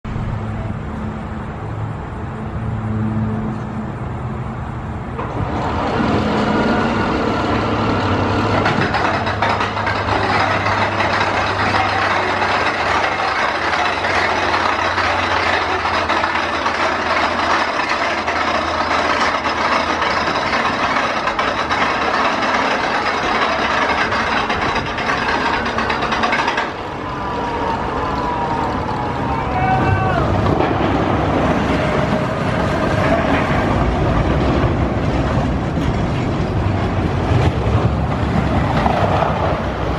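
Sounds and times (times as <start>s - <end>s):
roller coaster wheels rumbling: 0.1s - 39.9s.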